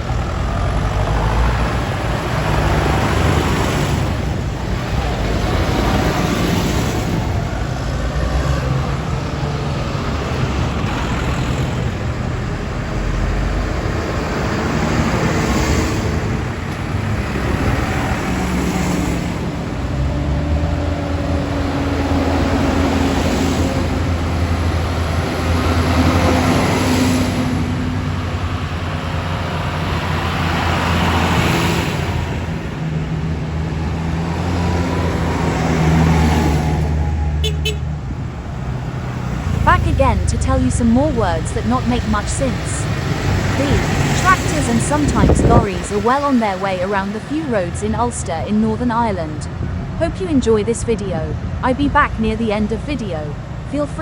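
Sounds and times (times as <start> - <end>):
tractors and lorries driving past: 0.0 - 54.0.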